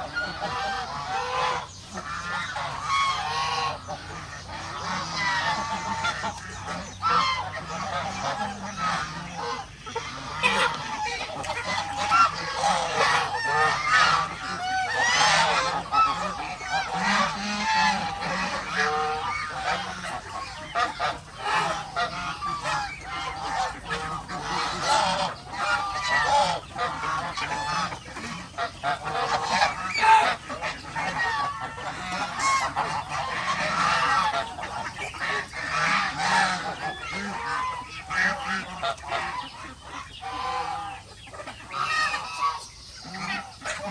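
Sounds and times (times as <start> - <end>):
geese honking: 0.0 - 43.9.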